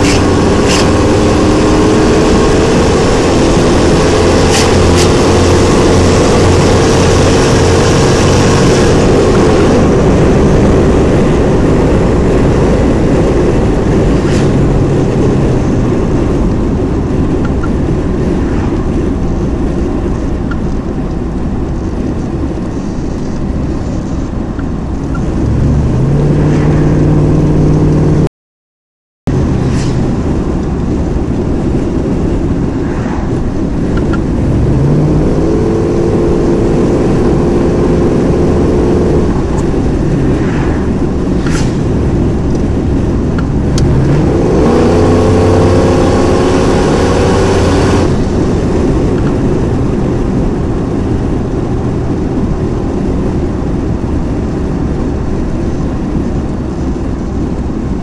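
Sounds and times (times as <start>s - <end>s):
car engine accelerating: 0.0s - 28.3s, 29.3s - 58.0s
road noise: 0.0s - 28.3s, 29.3s - 58.0s.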